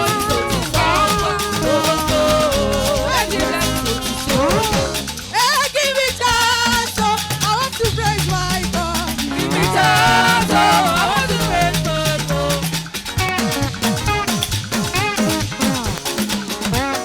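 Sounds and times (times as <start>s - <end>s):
band playing dance groove: 0.0s - 17.0s.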